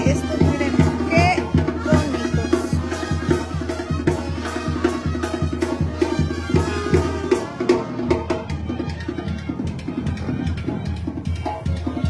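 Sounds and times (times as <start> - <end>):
music with quick drum beat: 0.0 - 12.0.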